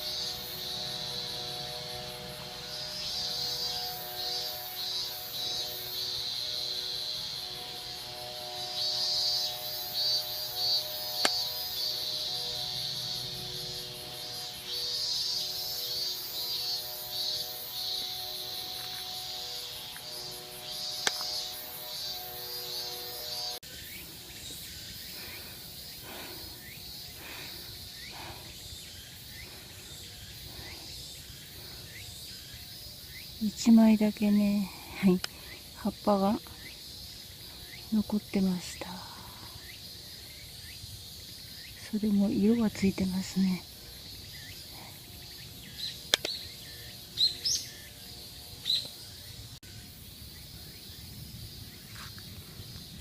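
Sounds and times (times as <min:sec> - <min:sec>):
insect chorus: 0:00.0 - 0:53.0
rising insect chirps: 0:00.0 - 0:53.0.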